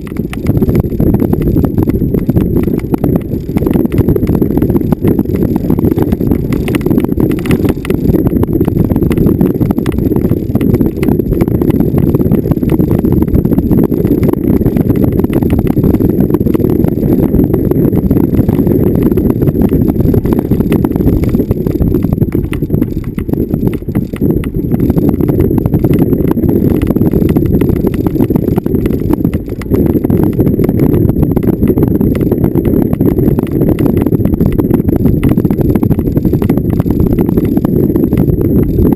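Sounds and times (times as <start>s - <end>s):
rapid jolts and rattles: 0.0s - 38.9s
vehicle rumbling over bumpy ground: 0.0s - 38.9s.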